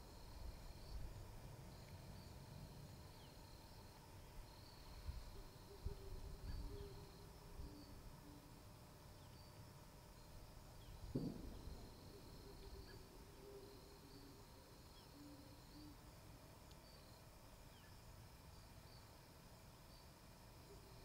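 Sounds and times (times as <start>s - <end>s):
faint high-pitched hum: 0.0s - 21.0s
faint outdoor ambience: 0.0s - 21.0s.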